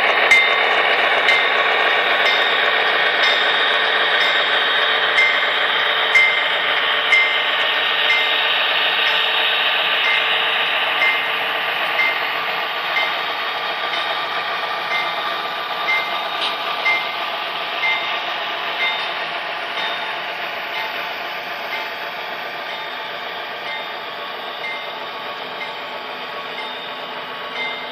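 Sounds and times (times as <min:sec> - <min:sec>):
light clicks of train: 0:00.0 - 0:27.9
model train motors whirring: 0:00.0 - 0:27.9.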